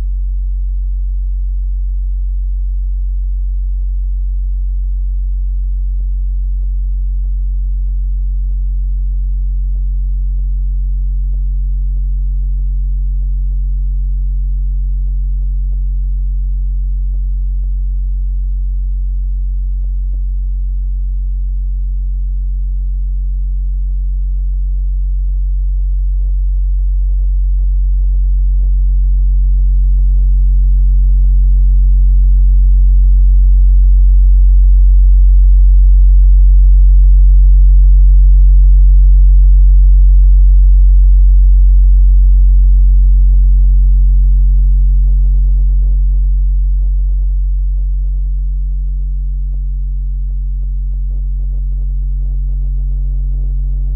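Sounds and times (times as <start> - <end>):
low electronic drone: 3.6 - 53.9.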